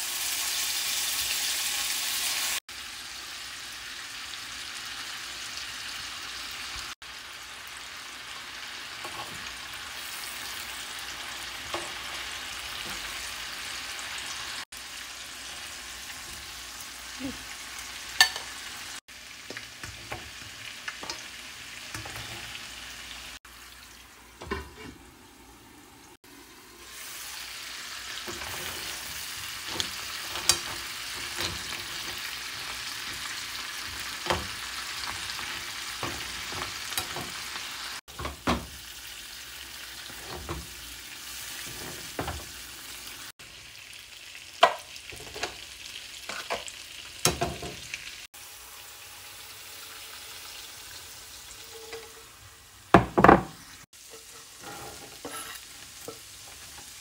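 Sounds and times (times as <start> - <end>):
butter sizzling in a frying pan: 0.0 - 57.0.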